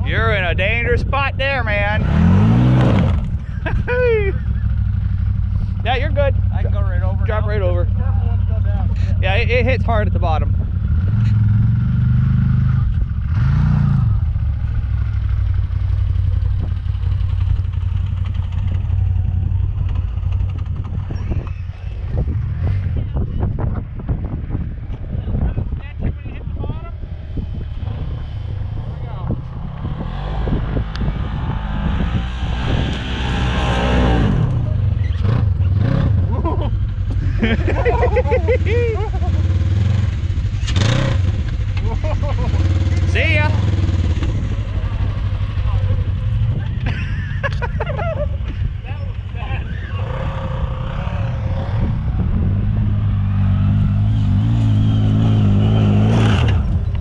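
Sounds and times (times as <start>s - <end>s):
off-road vehicle engine revving: 0.0s - 23.3s, 26.6s - 57.0s.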